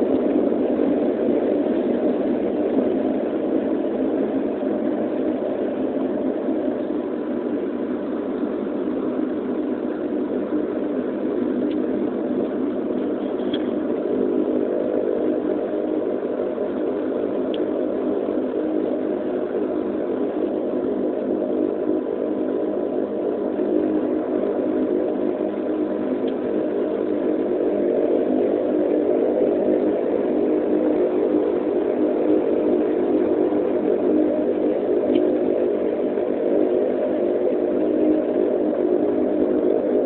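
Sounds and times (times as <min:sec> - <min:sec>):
turboprop engines droning: 0:00.0 - 0:40.0.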